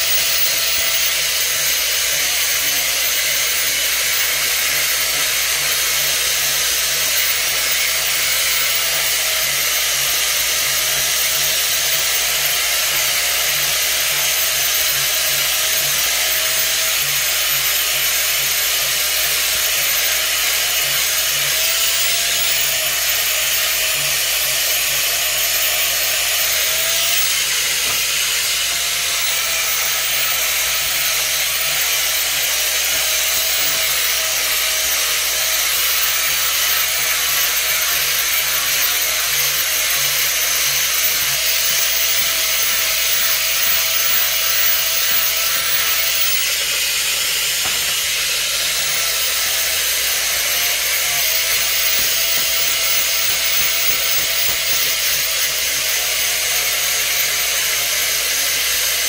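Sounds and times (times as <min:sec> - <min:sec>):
motor running with hiss and whine: 0:00.0 - 0:59.0.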